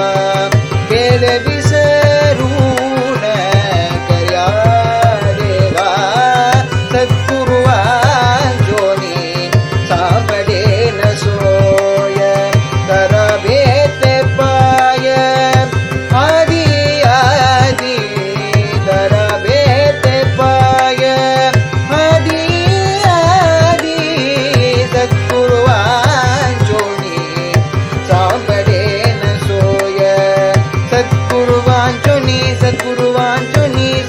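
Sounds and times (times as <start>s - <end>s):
drum rhythm: 0.0s - 34.0s
harmonium melody: 0.0s - 34.0s.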